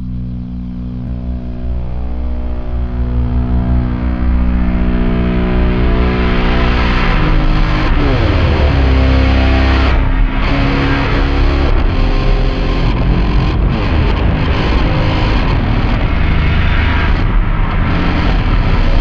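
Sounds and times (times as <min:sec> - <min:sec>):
distorted electric guitar: 0:00.0 - 0:19.0
heavy bass: 0:00.0 - 0:19.0.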